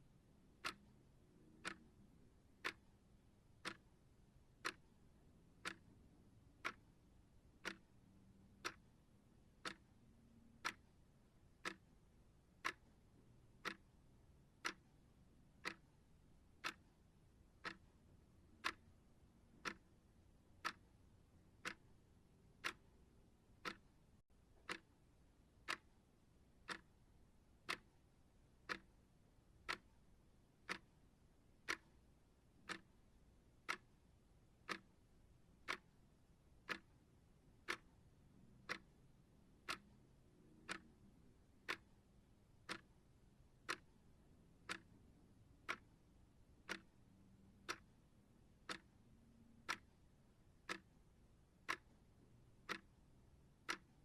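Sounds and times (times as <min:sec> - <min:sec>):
clock ticking: 0:00.3 - 0:54.0.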